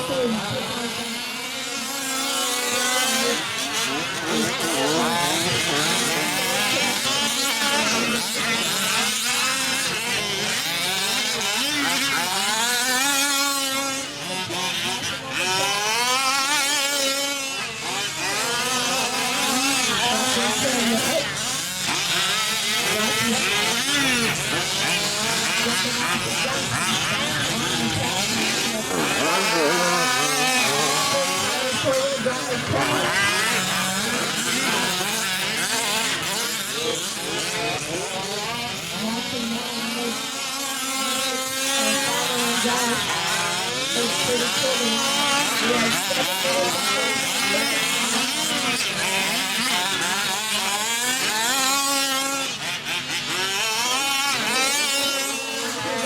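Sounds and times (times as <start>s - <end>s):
rc truck engines buzzing: 0.0s - 56.0s.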